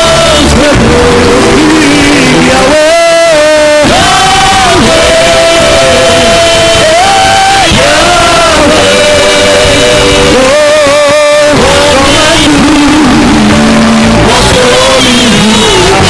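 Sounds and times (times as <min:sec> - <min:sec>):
live church worship music: 0:00.0 - 0:16.0.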